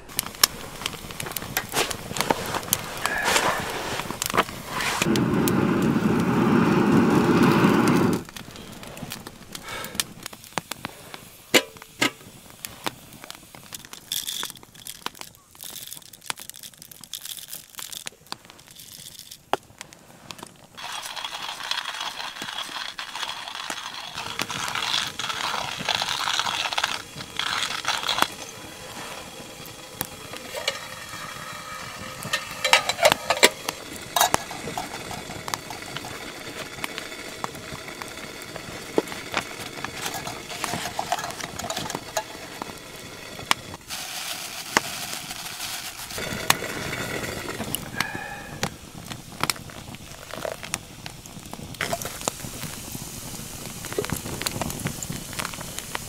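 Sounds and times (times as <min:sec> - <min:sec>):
wood fire crackling: 0:00.0 - 0:56.0
hand coffee grinder grinding: 0:00.2 - 0:10.1, 0:12.6 - 0:19.5, 0:20.2 - 0:50.8.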